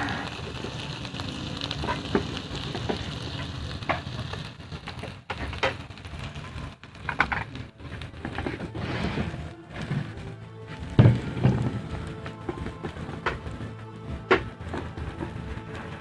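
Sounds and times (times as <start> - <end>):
fish sizzling in oil: 0.0 - 16.0
oil pops and crackles: 0.0 - 16.0.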